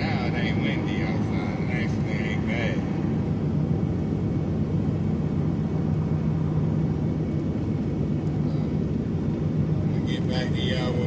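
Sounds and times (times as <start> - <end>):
pickup engine and road rumble: 0.0 - 11.0.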